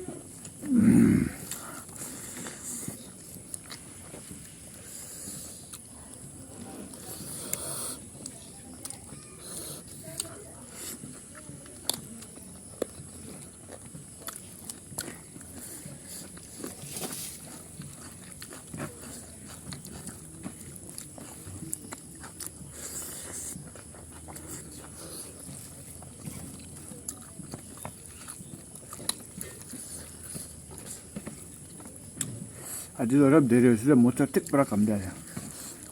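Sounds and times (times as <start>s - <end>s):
wet chewing: 0.0s - 35.9s.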